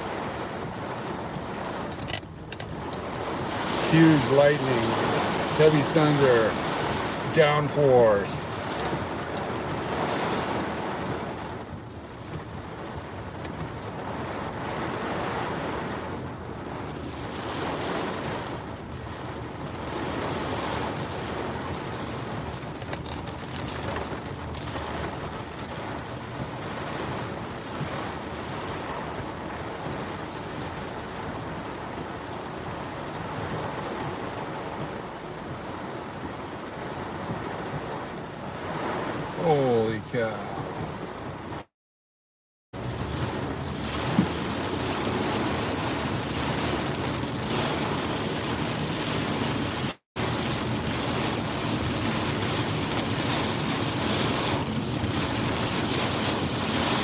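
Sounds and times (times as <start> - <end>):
heavy rain beating on car: 0.0 - 41.7, 42.8 - 57.0
strong wind gusts: 0.0 - 41.7, 42.8 - 57.0.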